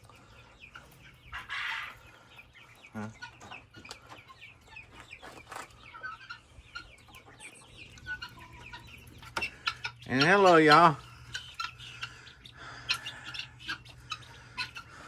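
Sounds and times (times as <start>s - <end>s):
poultry chirping and clucking: 0.0s - 15.0s.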